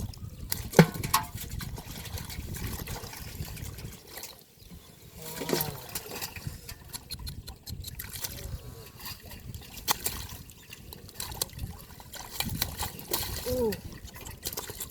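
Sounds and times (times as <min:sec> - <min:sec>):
shallow water splashing: 0:00.0 - 0:14.9.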